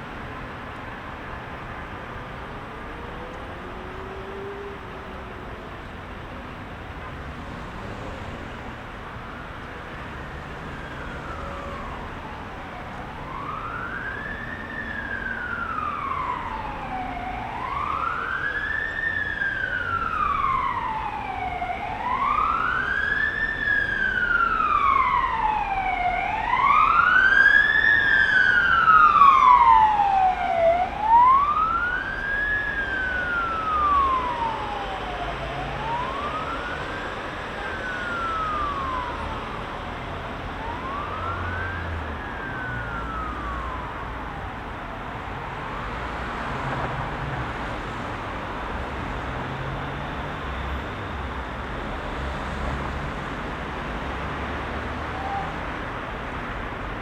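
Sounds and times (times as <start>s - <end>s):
heavy city traffic: 0.0s - 57.0s
emergency siren wailing: 1.0s - 57.0s.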